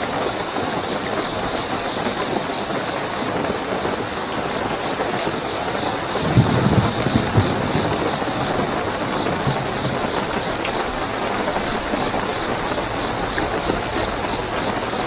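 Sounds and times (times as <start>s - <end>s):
crickets trilling: 0.0s - 15.0s
heavy rainfall: 0.0s - 15.0s.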